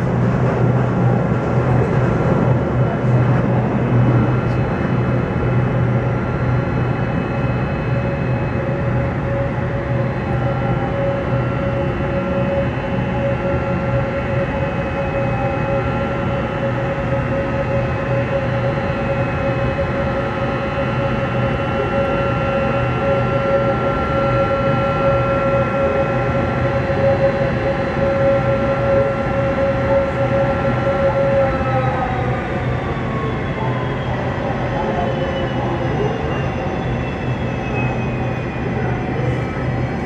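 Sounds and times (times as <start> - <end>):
jet engine whine: 0.0 - 40.0.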